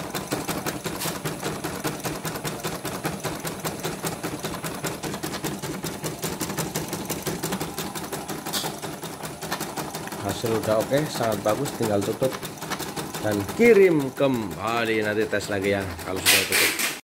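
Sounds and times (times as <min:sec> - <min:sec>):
embroidery machine needle ticking: 0:01.4 - 0:16.5.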